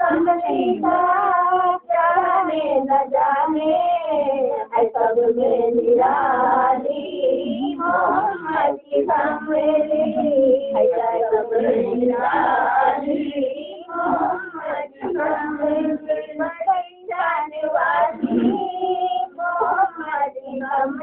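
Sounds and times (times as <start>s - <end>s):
high voice singing devotional song: 0.0s - 21.0s.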